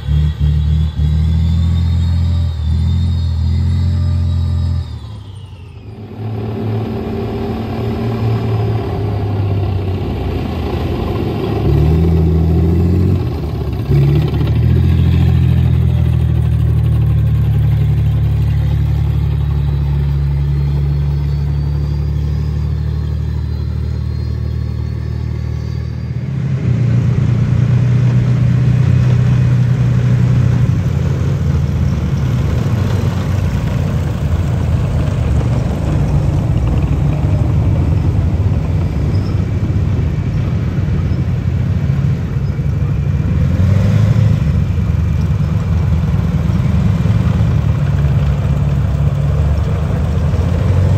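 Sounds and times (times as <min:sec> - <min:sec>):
heavy diesel engines revving: 0:00.0 - 0:50.9
tracked armoured vehicles driving past: 0:00.0 - 0:50.9.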